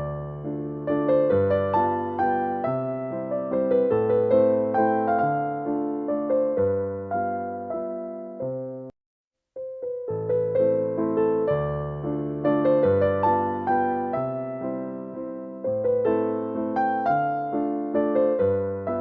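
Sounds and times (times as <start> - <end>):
classical piano music: 0.0 - 8.9, 9.6 - 19.0.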